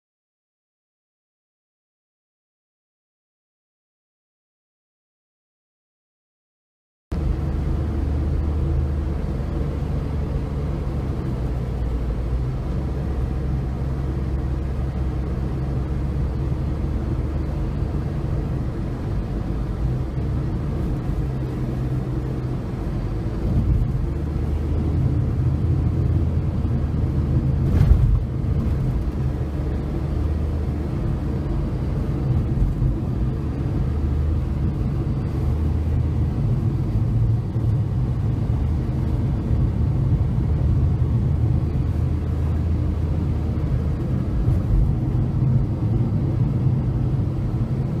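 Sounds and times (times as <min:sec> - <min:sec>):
car engine and tyre rumble: 0:07.1 - 0:48.0.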